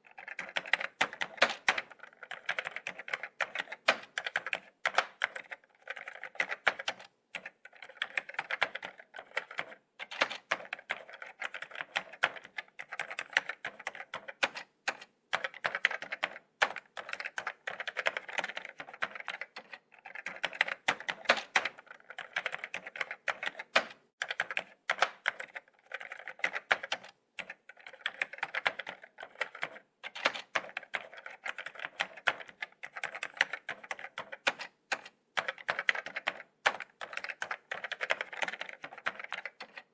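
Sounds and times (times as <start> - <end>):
laptop keyboard typing: 0.0 - 39.9.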